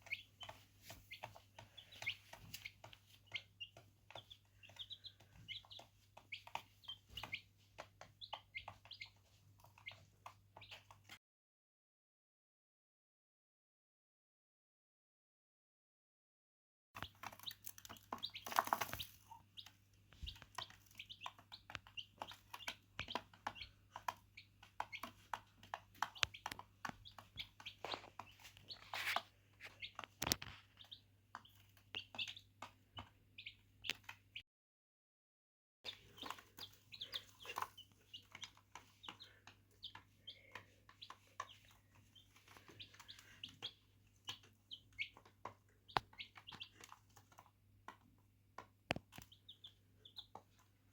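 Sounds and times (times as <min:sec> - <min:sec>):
beaks pecking: 0:00.0 - 0:11.0, 0:17.0 - 0:34.4, 0:35.9 - 0:50.9
chicks peeping: 0:00.0 - 0:11.2, 0:17.0 - 0:34.4, 0:35.9 - 0:50.9.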